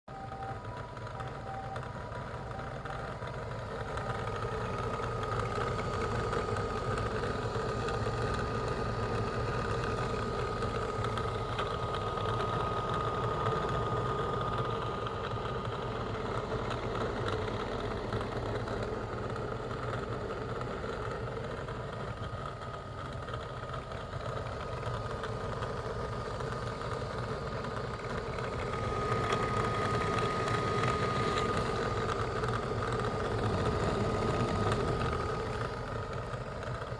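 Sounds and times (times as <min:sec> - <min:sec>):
fan motor whine: 0:00.1 - 0:36.9.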